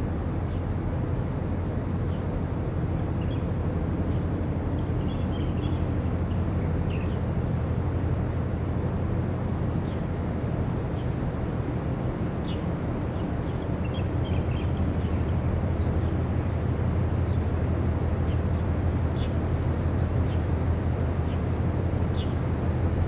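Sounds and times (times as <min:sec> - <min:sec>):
ship engine rumble: 0:00.0 - 0:23.0.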